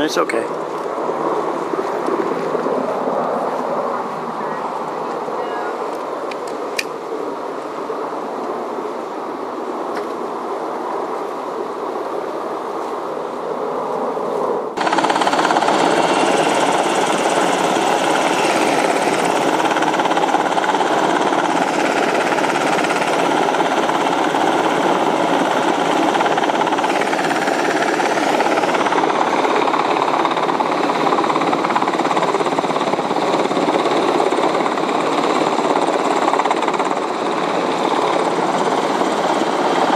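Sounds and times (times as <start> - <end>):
helicopter rotor chopping: 0.0 - 7.4, 13.5 - 39.9.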